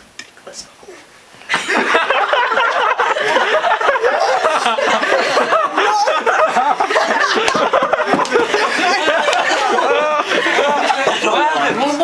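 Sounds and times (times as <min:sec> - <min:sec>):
teenagers laughing: 0:01.5 - 0:12.0.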